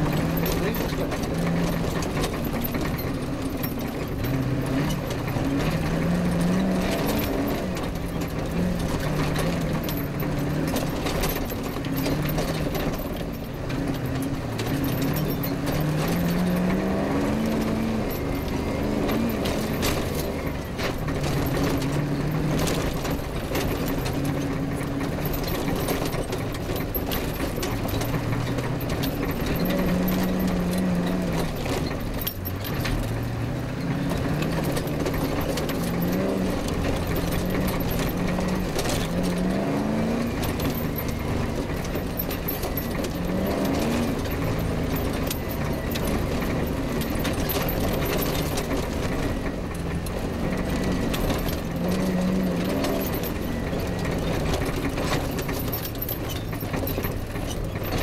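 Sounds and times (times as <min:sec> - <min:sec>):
car rattling over rough ground: 0:00.0 - 0:58.0
rally car engine revving: 0:00.0 - 0:58.0.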